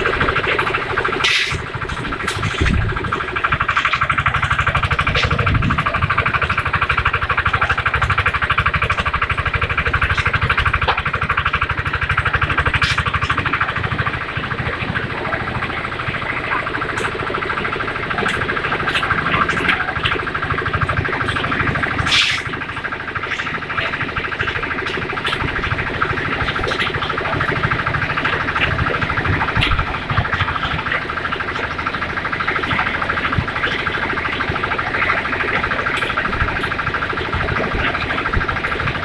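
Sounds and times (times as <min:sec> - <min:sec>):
concrete mixer engine running: 0:00.0 - 0:39.0.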